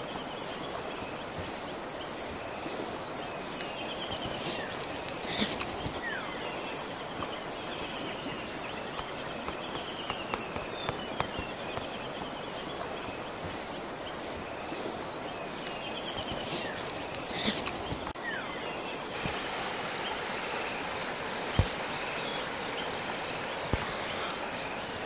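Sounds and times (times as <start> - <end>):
birds calling with rapid trills: 0.0 - 25.0
steady outdoor hiss: 0.0 - 25.0.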